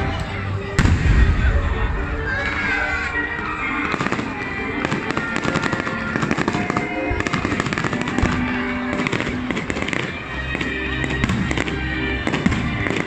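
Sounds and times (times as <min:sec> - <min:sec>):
fireworks bursting and crackling: 0:00.0 - 0:13.0
music playing: 0:00.0 - 0:13.0.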